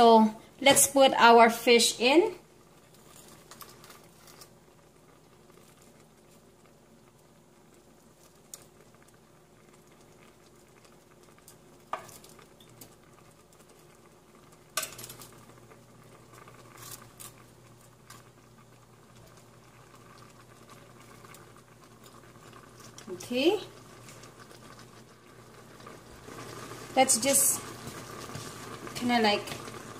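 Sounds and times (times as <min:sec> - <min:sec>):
broth bubbling: 0:02.4 - 0:29.9.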